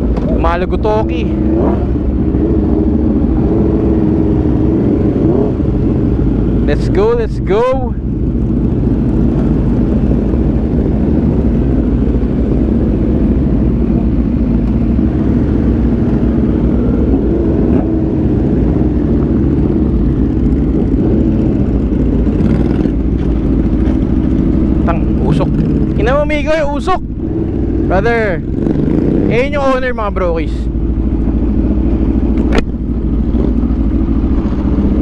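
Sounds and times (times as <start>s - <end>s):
motorcycle engine running steadily: 0.0s - 35.0s.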